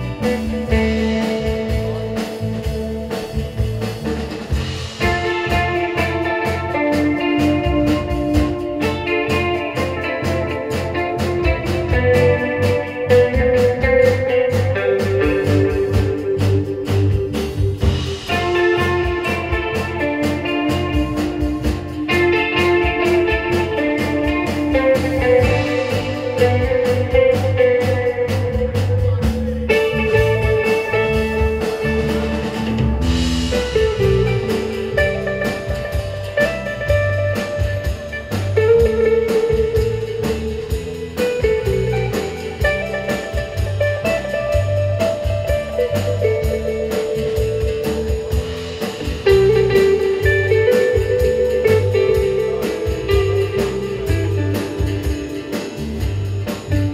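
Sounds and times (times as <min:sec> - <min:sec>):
drum kit: 0:00.0 - 0:56.9
electric guitar melody: 0:00.0 - 0:56.9
low rhythm line: 0:00.0 - 0:56.9.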